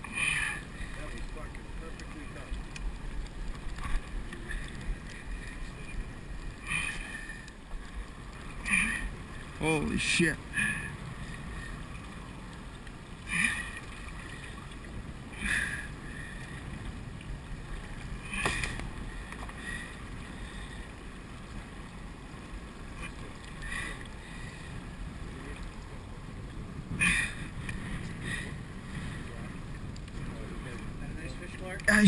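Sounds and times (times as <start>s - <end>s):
small boat on water: 0.0s - 32.0s.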